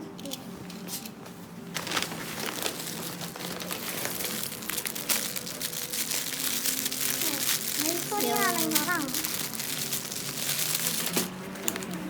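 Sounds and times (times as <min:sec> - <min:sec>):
plastic packaging crinkling: 0:01.7 - 0:12.0.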